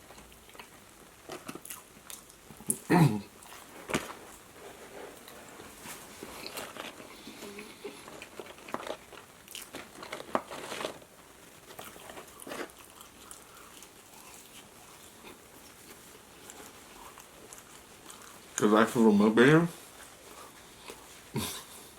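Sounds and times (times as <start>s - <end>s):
chewing crunchy fried food: 0.0s - 19.0s, 19.7s - 21.9s.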